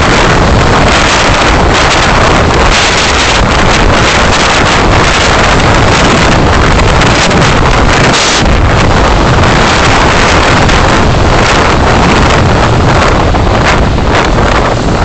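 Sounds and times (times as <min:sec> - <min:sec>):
road and wind noise from car: 0:00.0 - 0:15.0.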